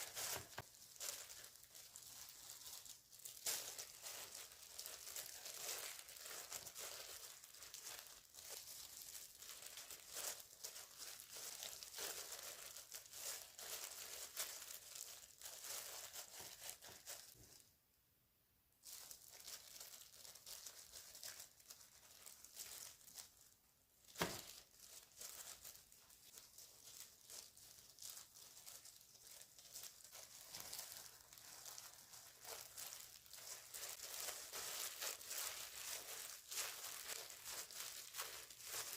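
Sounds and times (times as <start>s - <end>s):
crinkling and rustling: 0.0s - 17.7s, 18.8s - 38.9s.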